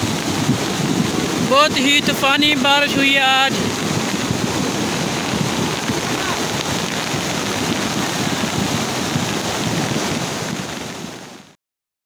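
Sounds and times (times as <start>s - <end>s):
floodwater rushing down a channel: 0.0s - 11.6s.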